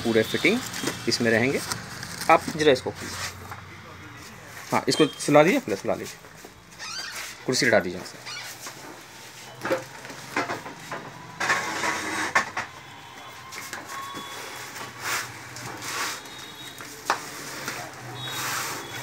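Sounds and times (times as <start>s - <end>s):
plastic-wrapped carton rustling: 0.0s - 3.5s, 4.3s - 12.8s, 13.4s - 19.0s.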